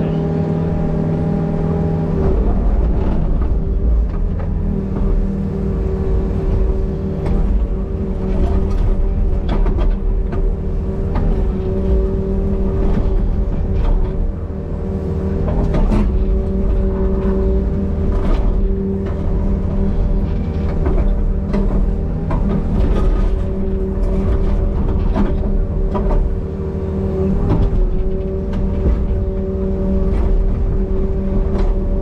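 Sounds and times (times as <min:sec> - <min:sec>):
excavator diesel engine running: 0:00.0 - 0:32.0
hydraulics working: 0:00.0 - 0:32.0.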